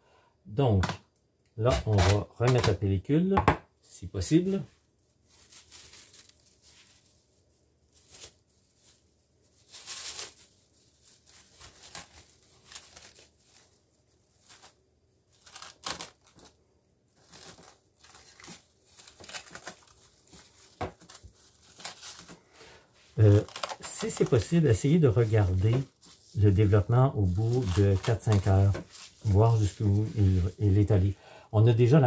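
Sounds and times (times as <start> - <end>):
cling film crinkling: 4.3 - 31.8.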